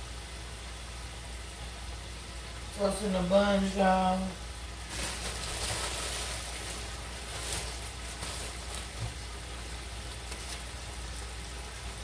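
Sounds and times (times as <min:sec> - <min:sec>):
buns sizzling in butter: 0:00.0 - 0:12.0.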